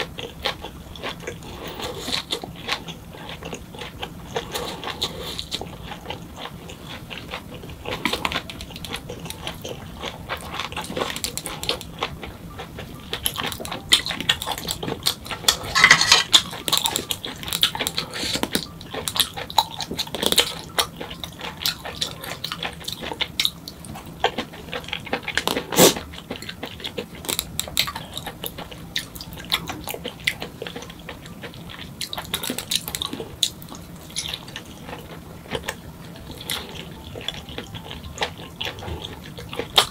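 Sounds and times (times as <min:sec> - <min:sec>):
chewing and mouth noises: 0:00.0 - 0:39.9.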